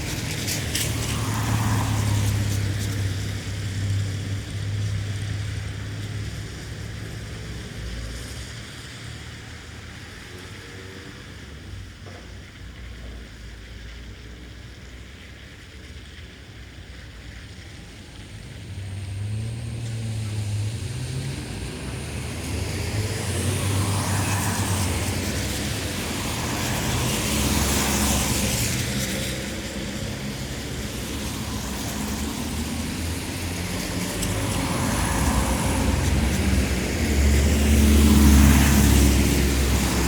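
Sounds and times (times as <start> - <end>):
tyres hissing on wet road: 0.0 - 40.0.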